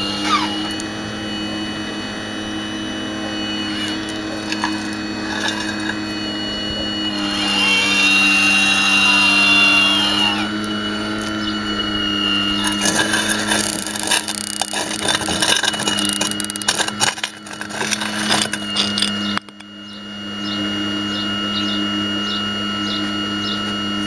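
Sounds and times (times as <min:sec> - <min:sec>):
hydraulic pump humming: 0:00.0 - 0:24.0
hydraulic whine: 0:00.0 - 0:24.0.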